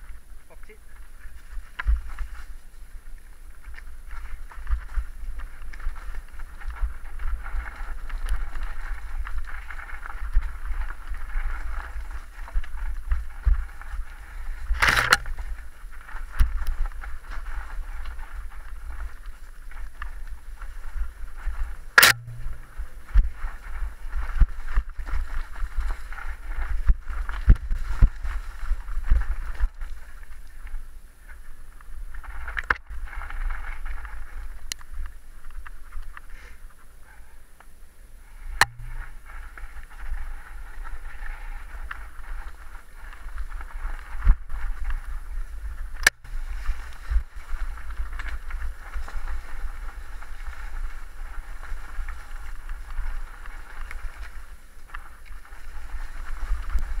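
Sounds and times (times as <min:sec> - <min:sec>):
bike tyres rumbling and rattling: 0:00.0 - 0:57.0
wind on microphone: 0:01.0 - 0:36.2, 0:38.2 - 0:57.0.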